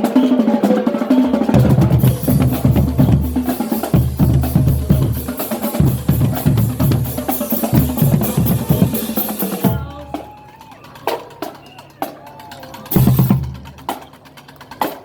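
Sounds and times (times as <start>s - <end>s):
marching band drums: 0.0s - 15.0s.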